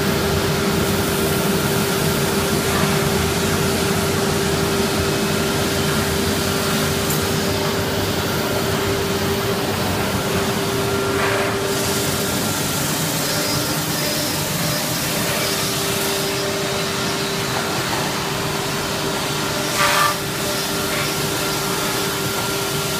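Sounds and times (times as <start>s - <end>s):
steady machine noise with hum: 0.0s - 22.9s.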